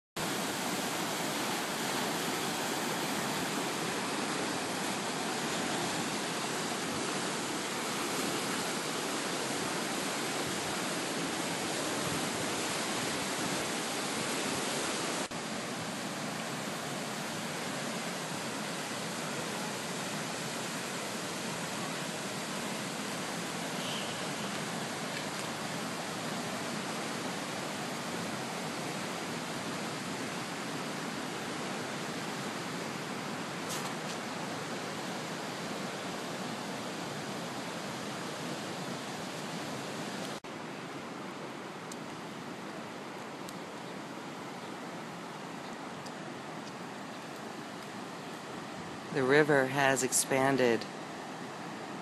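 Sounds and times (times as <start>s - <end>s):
creek water rushing: 0.2s - 52.0s.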